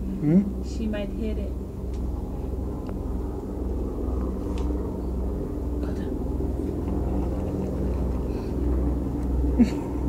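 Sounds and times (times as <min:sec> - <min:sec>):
low rumble with hum: 0:00.0 - 0:10.0.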